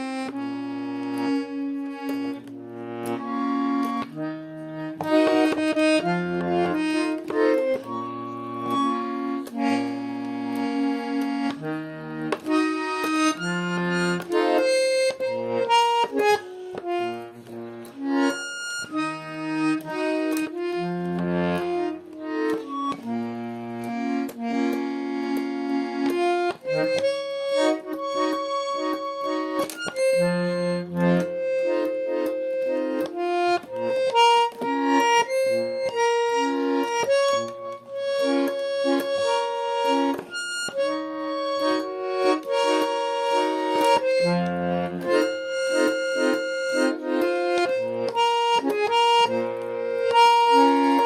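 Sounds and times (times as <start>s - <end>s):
button accordion playing a tune: 0.0s - 51.0s.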